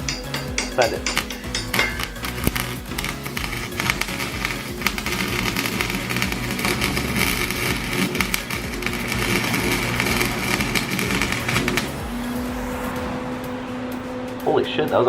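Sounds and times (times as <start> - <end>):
welder crackling buzz with pops: 0.0 - 14.4.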